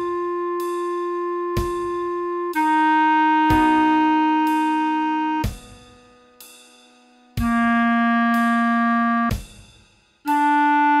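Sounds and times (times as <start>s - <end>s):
clarinet playing slow melody: 0.0s - 6.3s, 7.4s - 9.3s, 10.3s - 11.0s.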